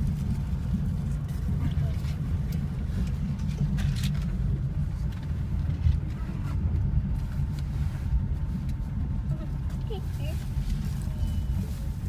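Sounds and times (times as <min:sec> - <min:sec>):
railway car rumbling: 0:00.0 - 0:12.0.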